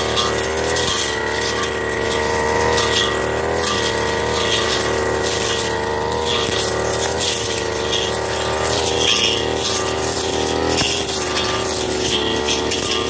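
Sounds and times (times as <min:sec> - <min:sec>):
brush cutter engine running: 0:00.0 - 0:13.0
cutting head swishing through grass: 0:00.0 - 0:13.0.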